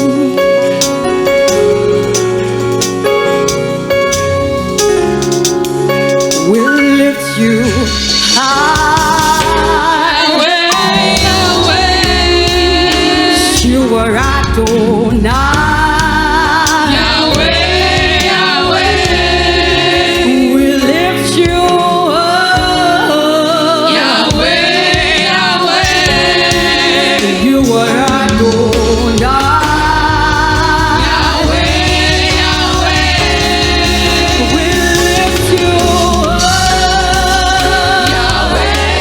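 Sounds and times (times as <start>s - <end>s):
gospel choir singing: 0.0s - 5.1s, 6.4s - 39.0s
band accompaniment: 0.0s - 39.0s.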